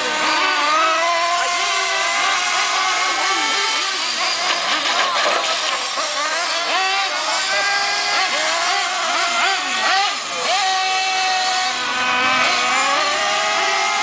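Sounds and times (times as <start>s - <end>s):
model car motors revving: 0.0s - 14.0s.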